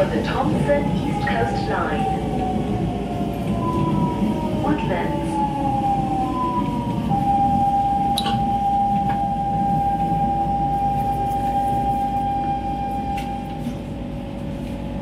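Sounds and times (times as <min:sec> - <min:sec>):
low rumble of train car: 0:00.0 - 0:15.0.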